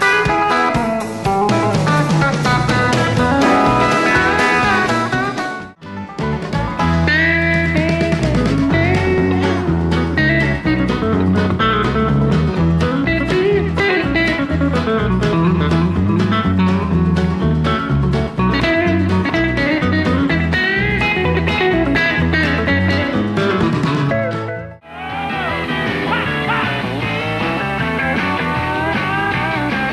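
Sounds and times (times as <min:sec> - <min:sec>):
band with bass and drums: 0:00.0 - 0:29.9
electric guitar lead lines: 0:00.0 - 0:29.9.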